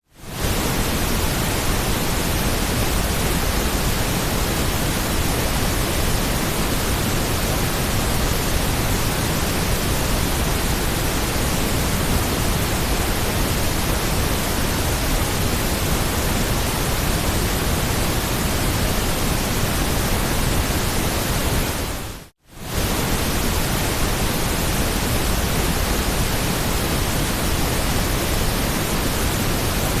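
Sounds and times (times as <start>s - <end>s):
steady white noise hiss: 0.0s - 30.0s.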